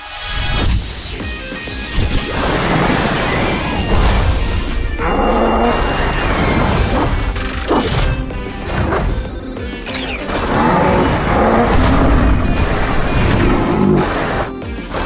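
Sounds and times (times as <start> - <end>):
cartoon music: 2.4 - 14.6.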